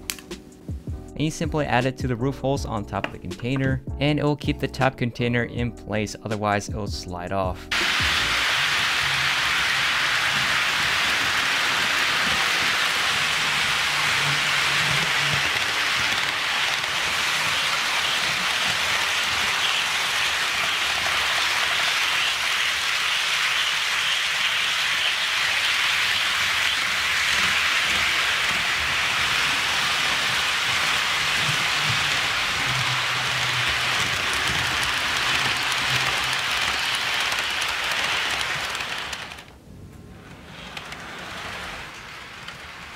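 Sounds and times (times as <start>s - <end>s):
model train wheels clattering: 7.7s - 42.9s.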